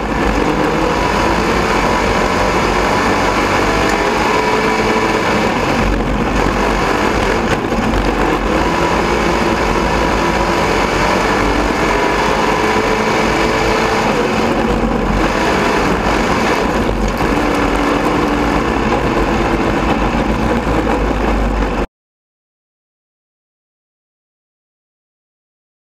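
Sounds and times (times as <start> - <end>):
race car engine running: 0.0 - 21.9.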